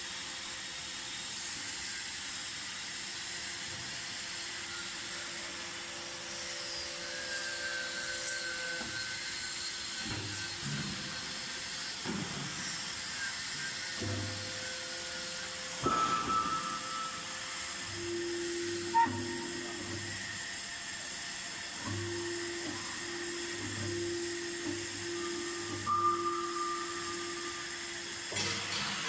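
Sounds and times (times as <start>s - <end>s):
press machine hum and hiss: 0.0s - 29.0s.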